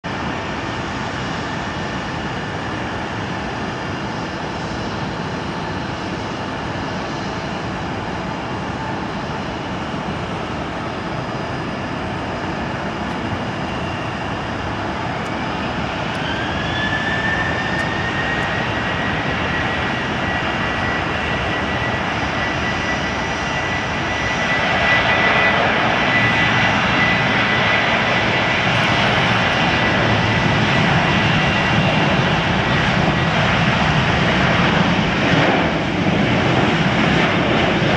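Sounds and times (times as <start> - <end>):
jet engines spooling up: 4.2 - 37.9.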